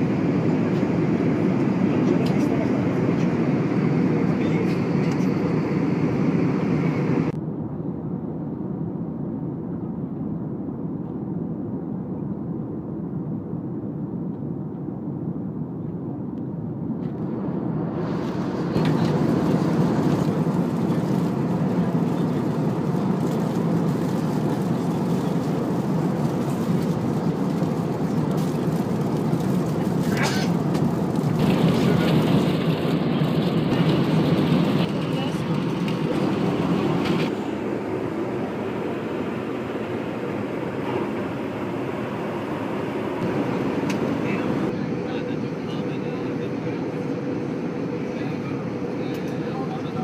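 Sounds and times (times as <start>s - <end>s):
airliner cabin engine rumble: 0.0s - 50.0s.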